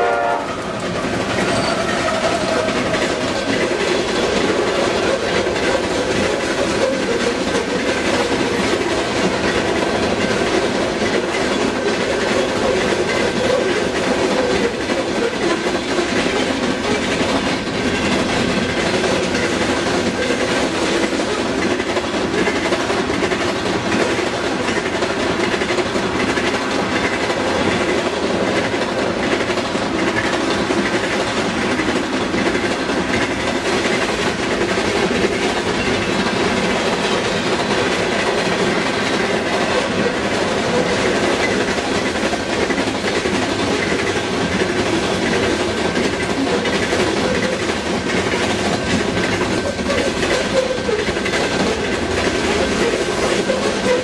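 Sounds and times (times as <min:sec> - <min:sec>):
freight train wheels clattering on rails: 0:00.0 - 0:54.0.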